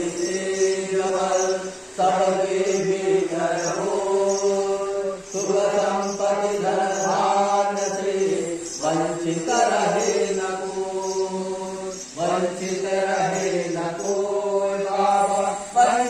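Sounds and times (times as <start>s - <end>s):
man chanting into microphone: 0.0s - 16.0s.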